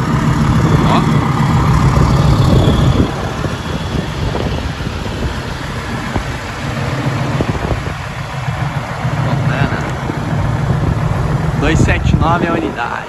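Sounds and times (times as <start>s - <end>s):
road traffic: 0.0s - 13.0s
wind buffeting microphone: 0.0s - 13.0s.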